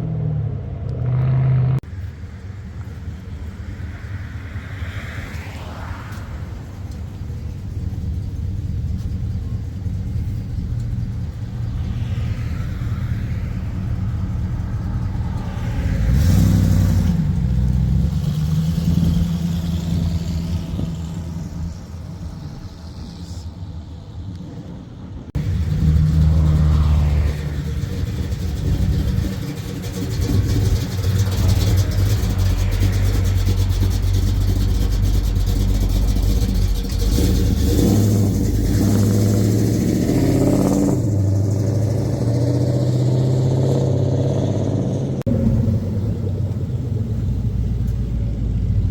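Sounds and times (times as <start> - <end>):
cars driving past revving: 0.0 - 48.9.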